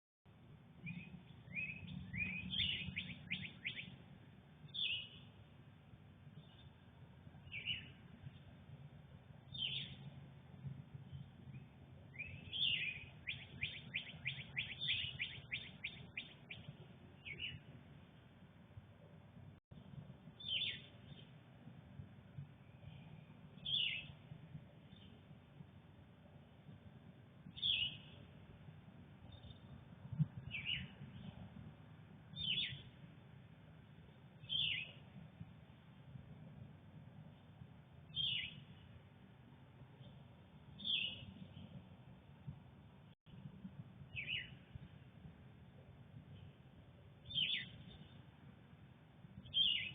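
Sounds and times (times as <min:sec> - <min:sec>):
songbird singing: 0:00.7 - 0:21.4, 0:22.2 - 0:43.4, 0:44.0 - 0:49.9
steady low rumble: 0:03.9 - 0:49.6.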